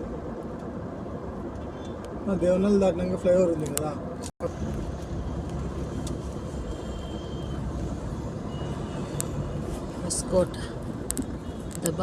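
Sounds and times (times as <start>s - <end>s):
car driving along road: 0.0s - 12.0s.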